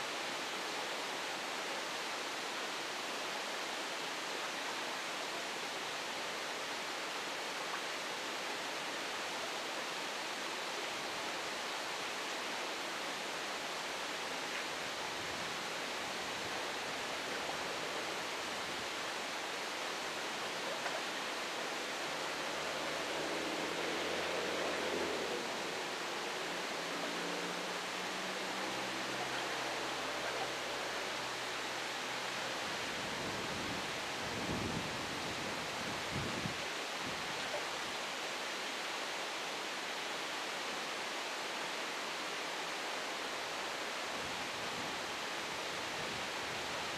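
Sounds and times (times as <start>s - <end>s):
outdoor background hiss: 0.0s - 46.9s.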